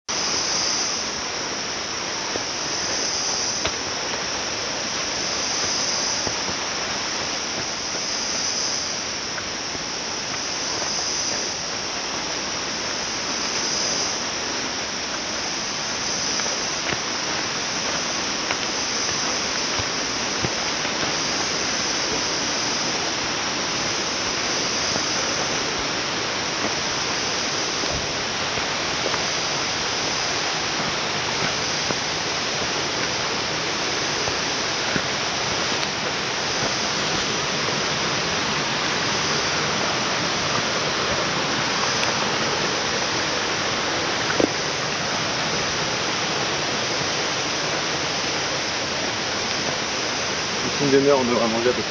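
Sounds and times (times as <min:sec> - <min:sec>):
high hiss: 0:00.1 - 0:51.9
rushing water: 0:00.1 - 0:51.9.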